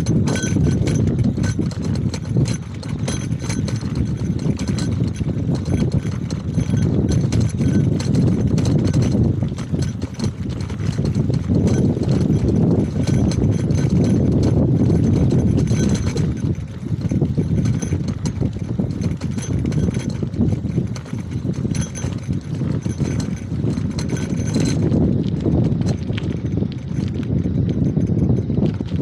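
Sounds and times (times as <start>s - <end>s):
bicycle rattling and knocking: 0.0s - 29.0s
wind rumbling on microphone: 0.0s - 29.0s.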